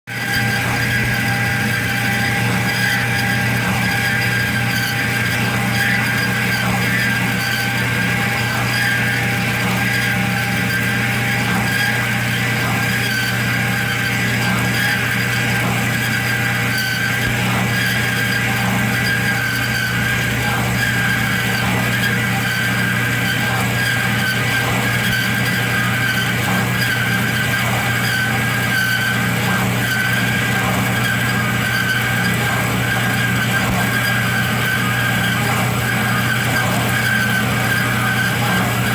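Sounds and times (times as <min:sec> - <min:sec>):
power tool cutting steel: 0:00.1 - 0:38.9
saw motor humming: 0:00.1 - 0:38.9.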